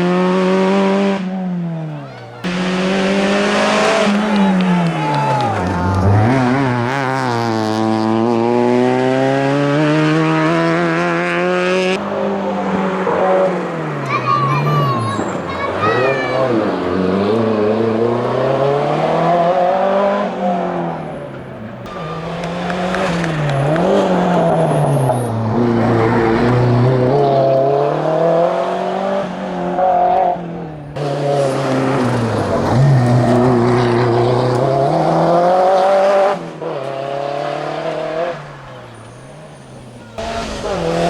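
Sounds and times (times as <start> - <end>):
turbocharged car engine revving: 0.0 - 41.0.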